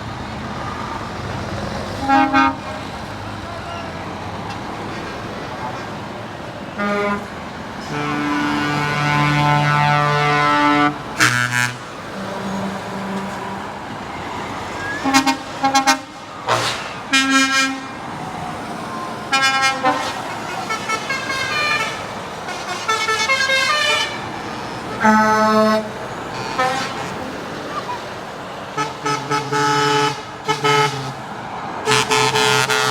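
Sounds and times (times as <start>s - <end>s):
truck engines running: 0.0s - 32.9s
truck air horns honking: 0.6s - 32.9s.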